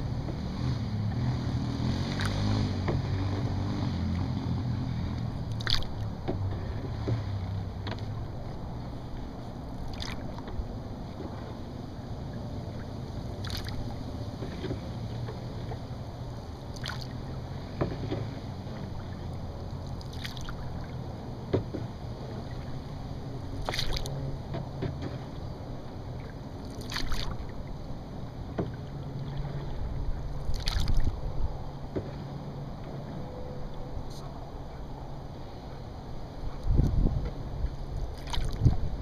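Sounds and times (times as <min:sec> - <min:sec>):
paddle strokes swishing through water: 0:00.0 - 0:39.0
wind rumble on microphone: 0:00.0 - 0:39.0.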